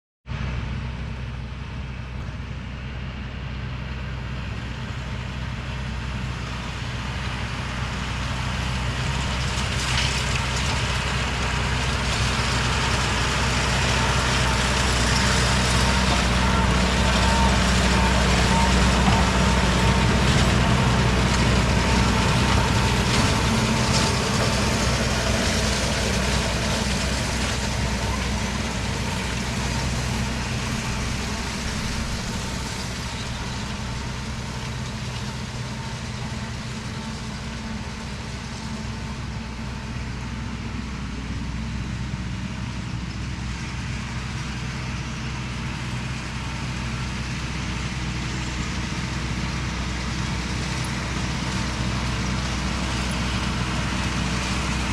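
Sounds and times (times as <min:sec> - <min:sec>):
baler machinery noise: 0:00.3 - 0:54.9
tractor engine running: 0:00.3 - 0:54.9.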